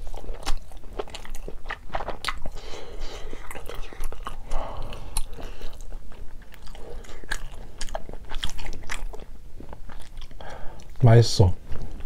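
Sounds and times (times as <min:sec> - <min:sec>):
close chewing of food: 0:00.0 - 0:11.0, 0:11.6 - 0:12.0.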